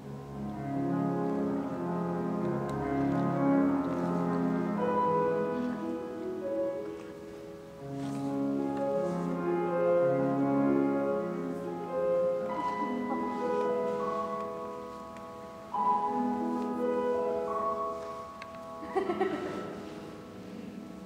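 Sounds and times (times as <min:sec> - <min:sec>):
slow classical piano: 0:00.0 - 0:21.0.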